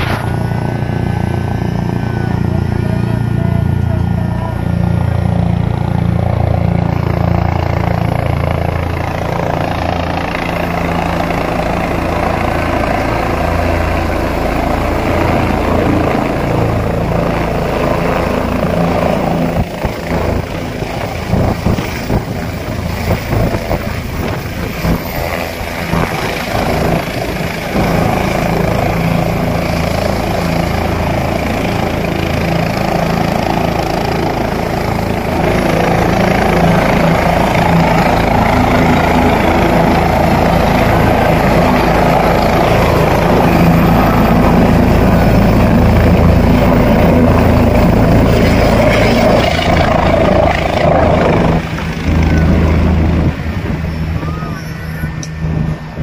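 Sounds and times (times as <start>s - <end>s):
helicopter running: 0.0s - 56.0s.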